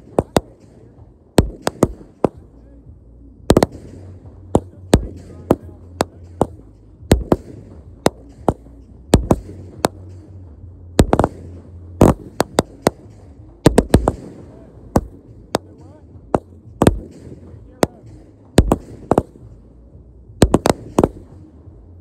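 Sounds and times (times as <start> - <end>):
fireworks banging: 0.0 - 2.6, 3.4 - 19.6, 20.4 - 21.5.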